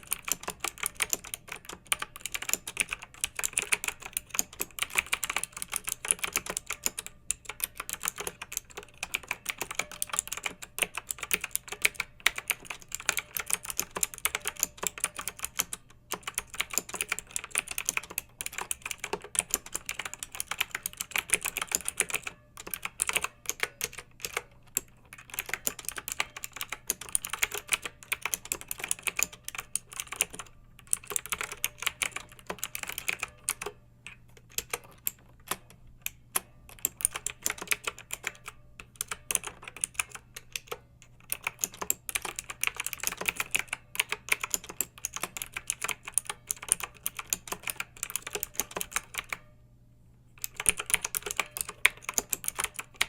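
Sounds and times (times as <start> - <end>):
mechanical keyboard typing: 0.0 - 49.5, 50.4 - 53.0.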